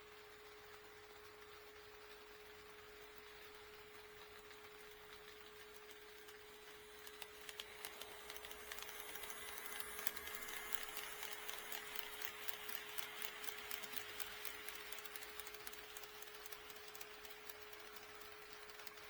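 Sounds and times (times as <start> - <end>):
model train wheels clicking: 0.0 - 19.0.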